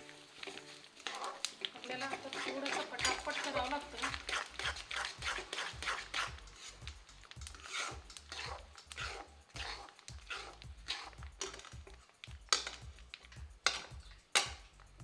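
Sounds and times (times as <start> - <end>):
spatula scraping metal pan: 0.0 - 14.6.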